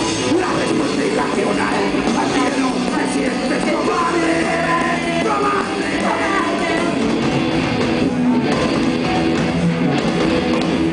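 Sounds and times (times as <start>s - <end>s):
drum kit: 0.0s - 10.9s
electric guitars: 0.0s - 10.9s.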